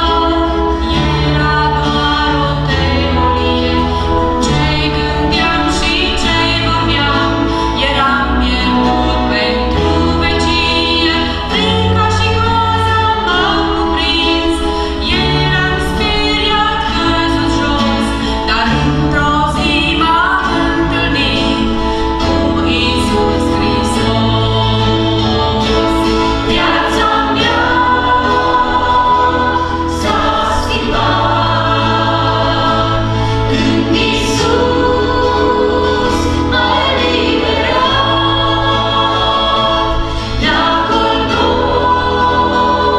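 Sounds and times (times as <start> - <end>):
acoustic guitar: 0.0 - 42.9
electric bass: 0.0 - 42.9
group singing worship song: 0.0 - 42.9.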